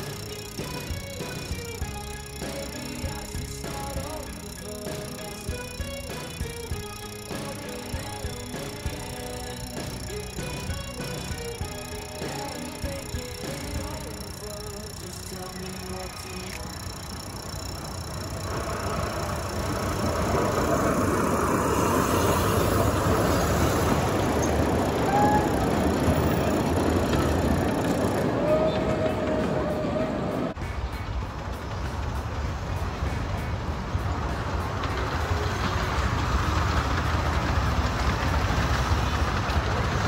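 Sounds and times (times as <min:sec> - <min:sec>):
miniature steam train rumbling: 0:00.0 - 0:40.0.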